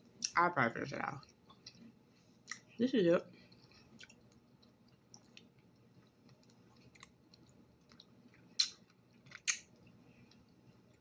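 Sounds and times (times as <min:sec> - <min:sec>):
person chewing food: 0:01.2 - 0:11.0.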